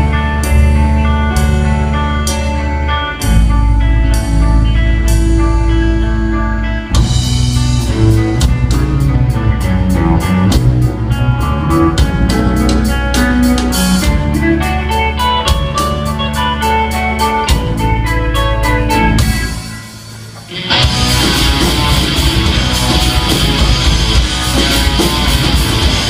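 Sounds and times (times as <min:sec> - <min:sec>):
rock band playing instrumental: 0:00.0 - 0:26.0.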